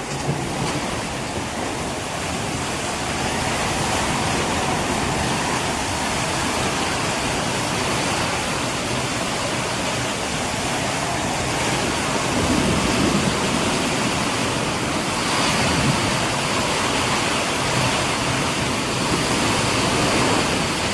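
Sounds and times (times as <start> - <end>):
heavy rain pouring: 0.0 - 20.9
wind gusts: 0.0 - 20.9.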